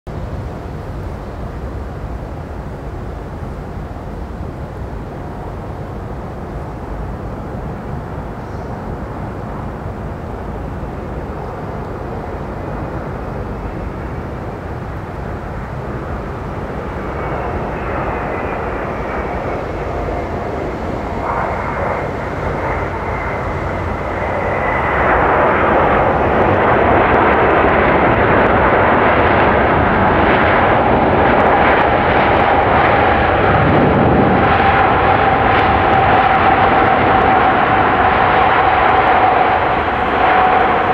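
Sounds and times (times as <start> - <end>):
jet engines roaring on landing: 0.2 - 40.9.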